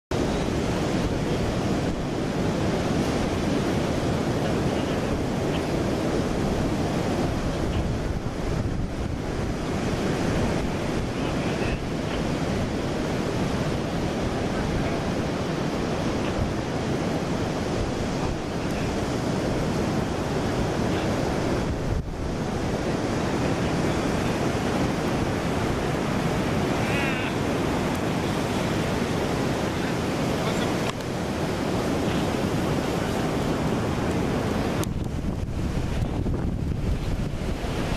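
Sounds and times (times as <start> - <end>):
ocean surf: 0.1 - 37.9
wind buffeting microphone: 0.1 - 37.9.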